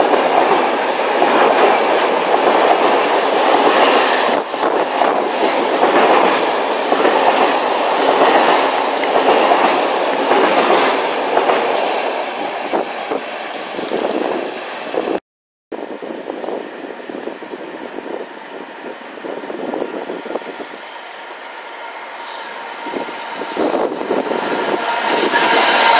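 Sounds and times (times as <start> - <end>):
train wheels rumbling and clattering: 0.0 - 15.2, 16.0 - 25.9.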